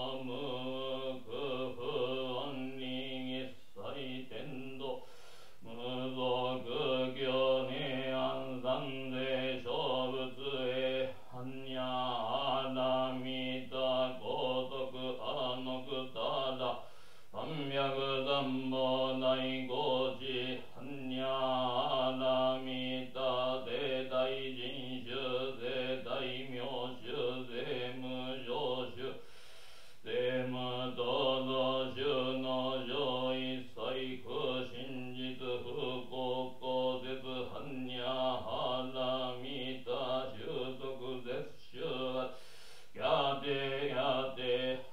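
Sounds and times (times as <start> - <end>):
man chanting in low monotone: 0.0 - 5.0, 5.6 - 16.8, 17.4 - 29.2, 30.0 - 42.3, 43.0 - 44.9.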